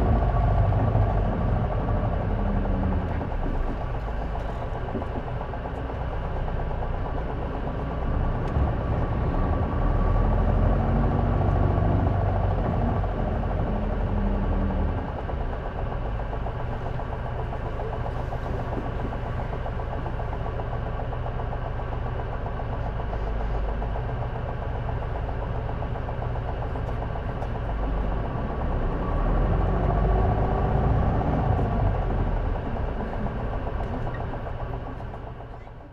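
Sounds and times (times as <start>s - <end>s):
bus diesel engine: 0.0s - 35.9s.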